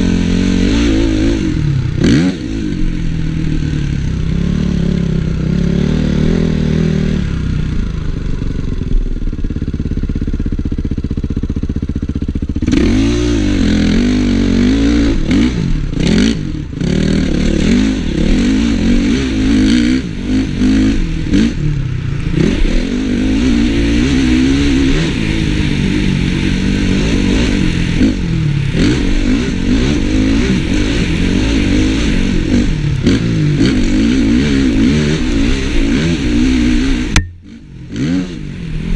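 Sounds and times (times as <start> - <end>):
motocross bike engine revving: 0.0 - 8.8, 9.4 - 38.9.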